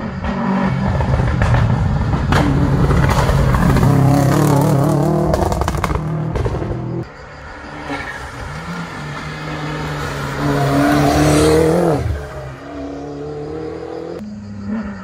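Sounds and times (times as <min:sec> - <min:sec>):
rally car engine accelerating: 0:00.0 - 0:07.0, 0:07.6 - 0:15.0.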